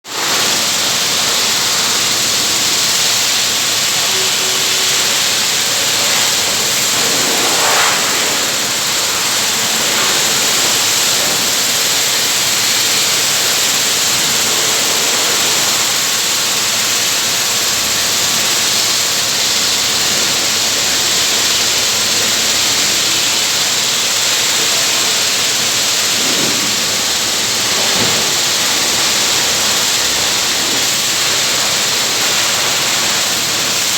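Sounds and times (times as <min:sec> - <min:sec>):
loud rushing hiss: 0:00.0 - 0:33.9.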